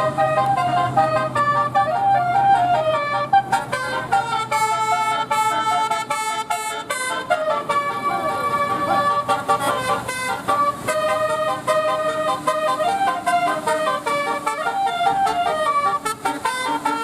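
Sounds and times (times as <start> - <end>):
multi-tone air horn playing tune: 0.0 - 17.0.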